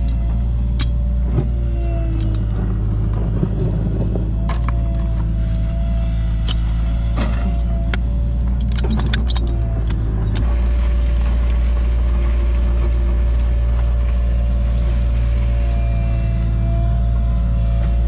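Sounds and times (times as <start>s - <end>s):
excavator diesel engine: 0.0s - 18.0s
hydraulic whine: 0.0s - 18.0s.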